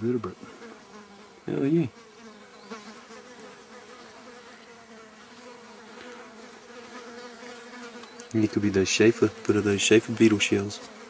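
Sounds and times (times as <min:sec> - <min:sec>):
faint insect buzzing: 0:00.0 - 0:11.0.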